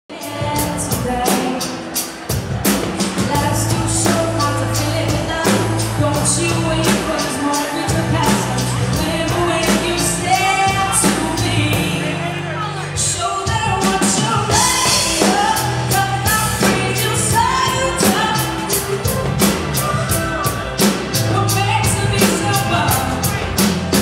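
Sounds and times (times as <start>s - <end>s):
woman singing: 0.1s - 2.2s, 3.1s - 23.6s
pop rock band playing: 0.1s - 24.0s.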